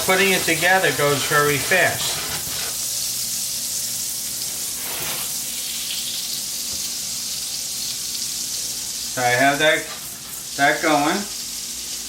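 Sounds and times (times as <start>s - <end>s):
oil and butter sizzling in a pan: 0.0s - 12.0s.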